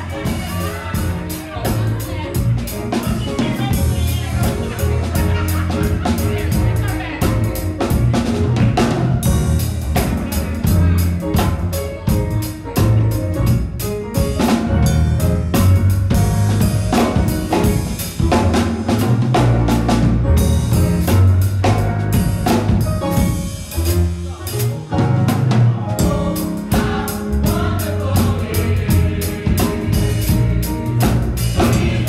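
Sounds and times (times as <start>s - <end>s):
bass line: 0.0s - 32.0s
drum kit beat: 0.0s - 32.0s
electric keyboard: 0.0s - 32.0s.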